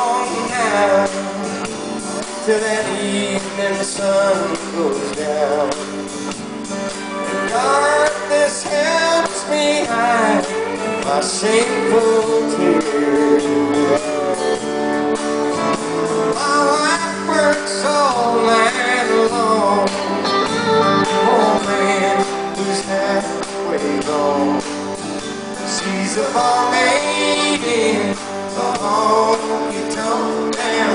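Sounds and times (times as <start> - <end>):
country-rock band playing: 0.0 - 30.9.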